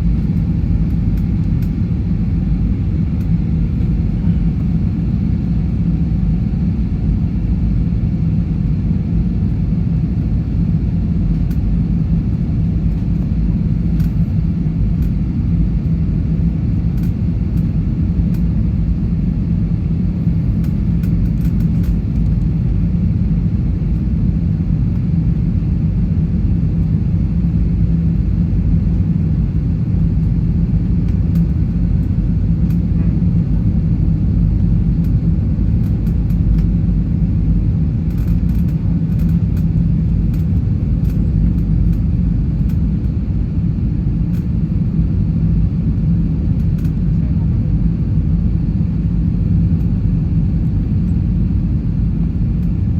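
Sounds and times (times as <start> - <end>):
airliner cabin engine rumble: 0.0 - 52.9
constant low hum: 0.0 - 52.9.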